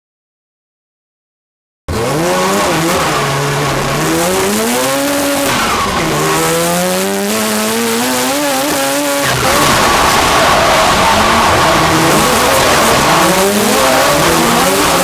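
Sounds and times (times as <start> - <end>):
car engine revving hard: 1.9 - 15.0.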